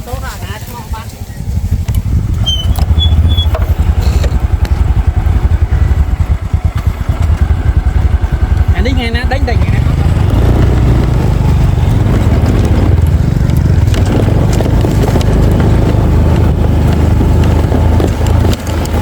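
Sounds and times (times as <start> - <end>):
small engine running: 1.4 - 19.0.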